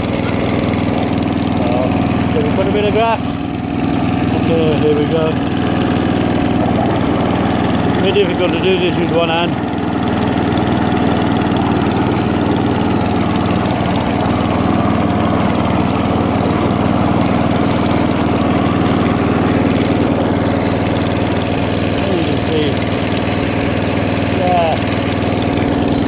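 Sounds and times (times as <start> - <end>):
lawnmower engine running: 0.0 - 26.0.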